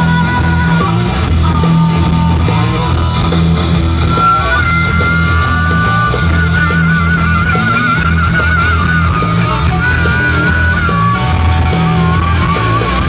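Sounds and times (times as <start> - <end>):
blues rock band playing: 0.0 - 13.0
harmonica long notes: 0.0 - 13.0.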